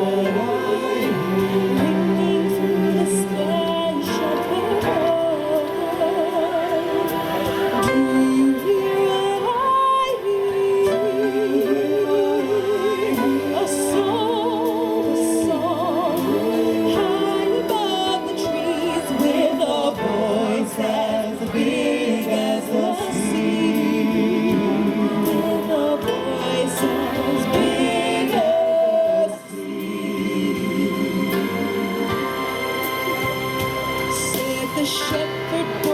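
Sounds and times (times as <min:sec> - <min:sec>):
instrumental accompaniment: 0:00.0 - 0:35.9
voices singing christmas song: 0:00.0 - 0:35.9.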